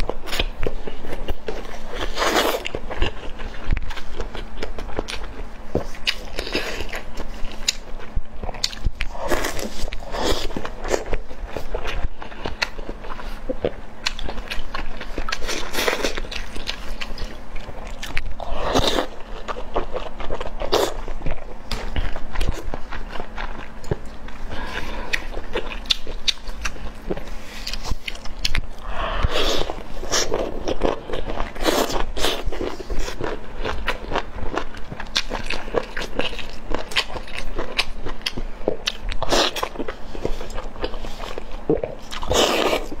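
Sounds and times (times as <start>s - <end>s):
wet chewing and biting: 0.0s - 43.0s.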